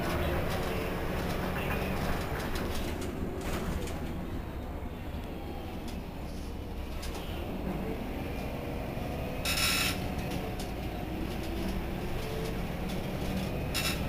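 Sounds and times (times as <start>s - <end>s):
bus engine idling: 0.0s - 14.0s.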